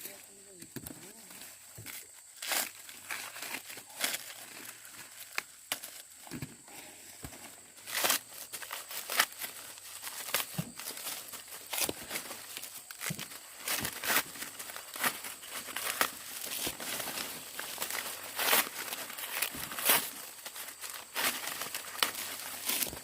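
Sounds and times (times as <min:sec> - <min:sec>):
corn ears cracking off stalks: 0:00.0 - 0:23.0
dry corn leaves rustling: 0:00.0 - 0:23.0.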